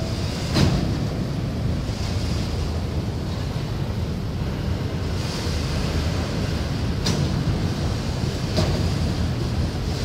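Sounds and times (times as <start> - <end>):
freight cars rumbling and rattling: 0.0 - 10.0.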